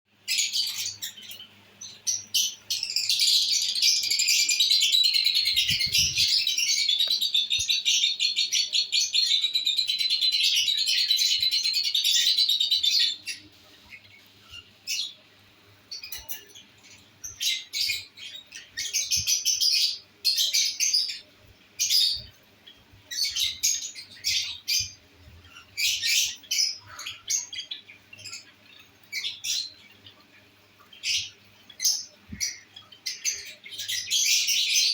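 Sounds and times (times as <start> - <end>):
lovebirds chirping: 0.1 - 34.9.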